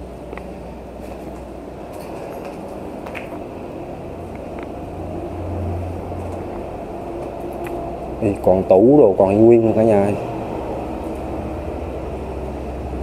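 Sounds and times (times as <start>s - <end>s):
heavy vehicle engine hum: 0.0s - 13.0s
road traffic rumble: 0.0s - 13.0s.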